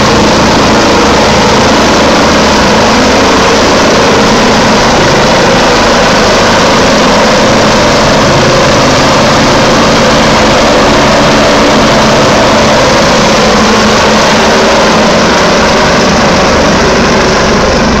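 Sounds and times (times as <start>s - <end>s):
helicopter rotor and turbine noise: 0.0s - 18.0s.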